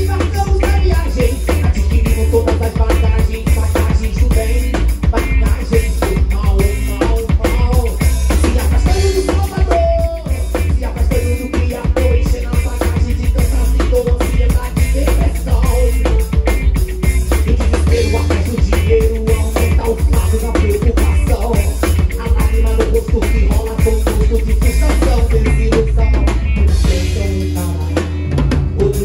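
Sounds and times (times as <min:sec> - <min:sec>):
drum kit beat: 0:00.0 - 0:29.0
electric bass groove: 0:00.0 - 0:29.0
live band music: 0:00.0 - 0:29.0.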